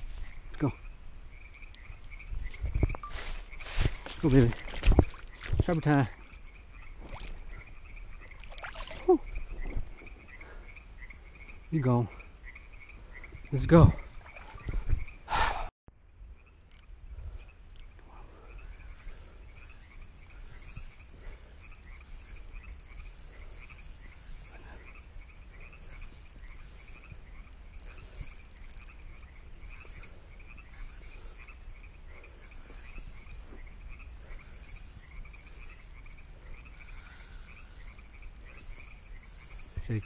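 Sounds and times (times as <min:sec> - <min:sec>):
frogs and crickets chirping: 0:00.0 - 0:40.0.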